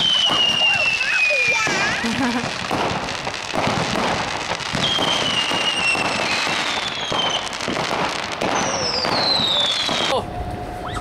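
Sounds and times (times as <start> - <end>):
fireworks crackling: 0.0 - 11.0
whistling fireworks falling in pitch: 0.0 - 11.0.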